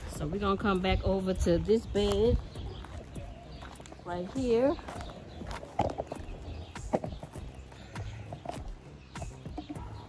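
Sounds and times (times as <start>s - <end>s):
footsteps: 0.0s - 10.0s.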